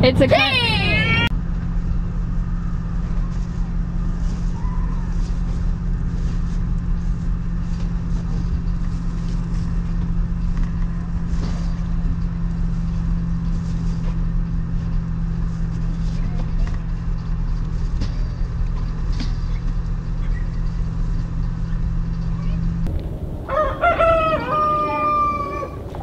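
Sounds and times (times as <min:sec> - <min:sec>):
van engine and road noise: 0:00.0 - 0:26.0.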